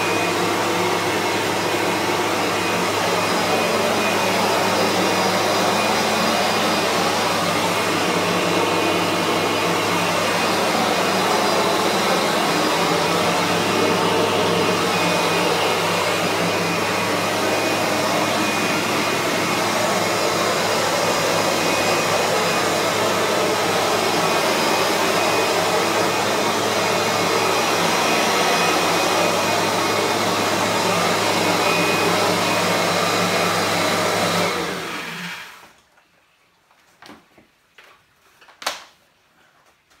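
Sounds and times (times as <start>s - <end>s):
vacuum motor drone with hiss: 0.0s - 35.8s.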